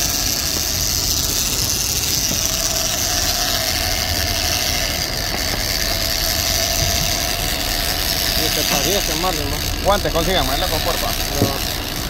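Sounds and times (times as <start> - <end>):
boat engines running: 0.0 - 12.0
steady hum: 0.0 - 12.0.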